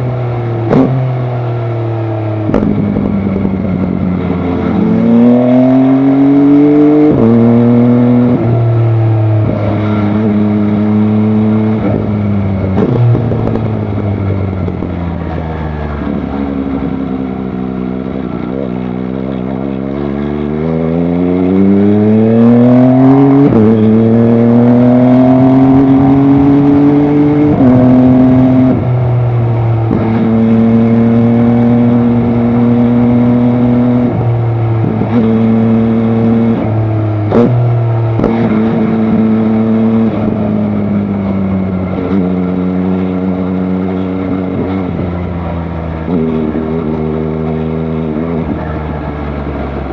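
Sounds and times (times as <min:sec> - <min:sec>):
motorcycle engine shifting gears: 0:00.0 - 0:49.9.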